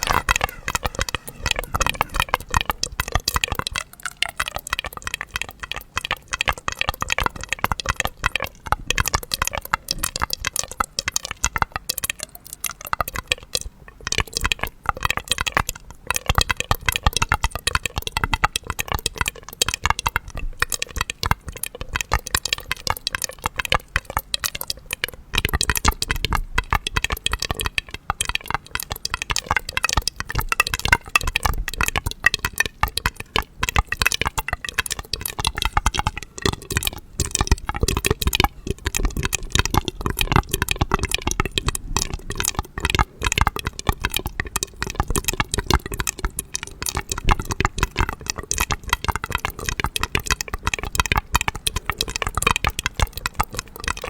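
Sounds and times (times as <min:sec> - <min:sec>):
dense crackling and clicking: 0:00.0 - 0:54.0.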